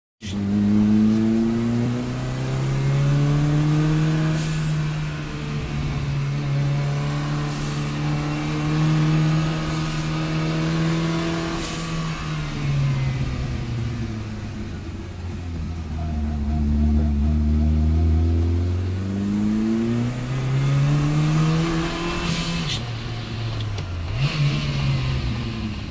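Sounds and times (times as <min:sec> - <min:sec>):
race car engine accelerating: 0:00.2 - 0:25.9.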